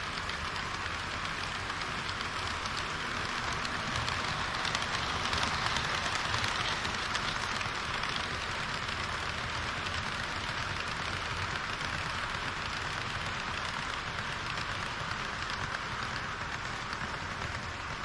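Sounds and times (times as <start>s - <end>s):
model train wheels on rail: 0.0s - 18.0s.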